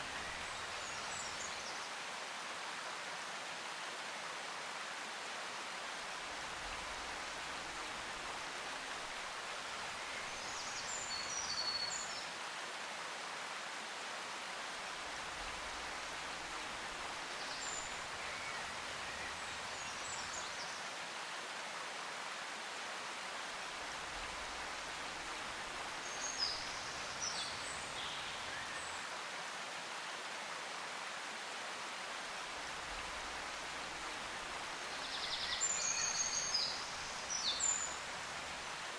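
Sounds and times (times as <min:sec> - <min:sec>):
outdoor ambience hiss: 0:00.0 - 0:38.9.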